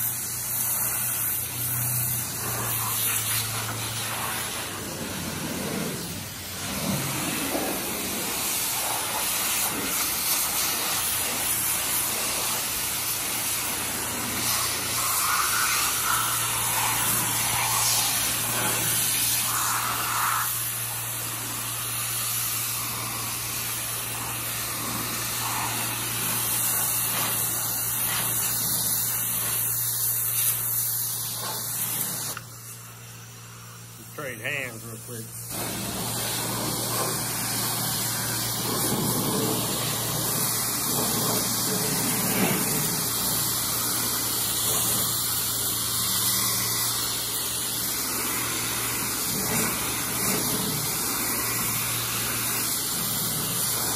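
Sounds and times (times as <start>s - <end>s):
pressure washer spraying: 0.0s - 53.9s.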